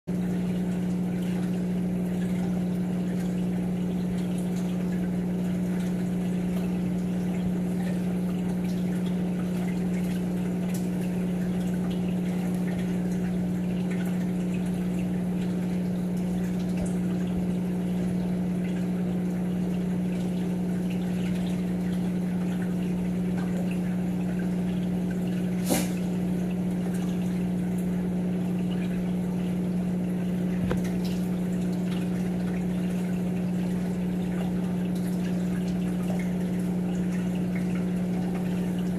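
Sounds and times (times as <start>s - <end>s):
aquarium pump humming: 0.0s - 38.9s
water trickling: 0.1s - 38.9s.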